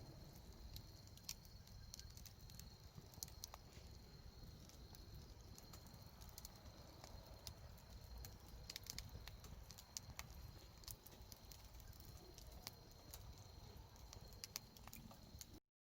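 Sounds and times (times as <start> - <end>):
campfire wood crackling: 0.0 - 15.6.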